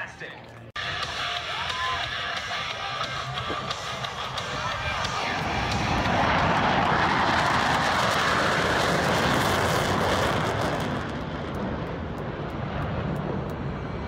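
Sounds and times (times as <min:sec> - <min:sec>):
airplane flying past: 0:00.8 - 0:14.0.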